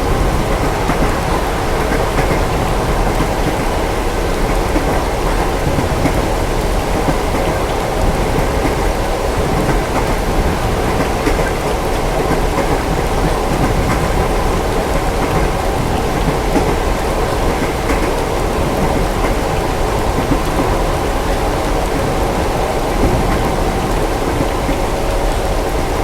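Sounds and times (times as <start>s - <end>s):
rain on a train window: 0.0s - 26.0s
train rumbling on rails: 0.0s - 26.0s
raindrop ticks: 0.3s - 21.4s.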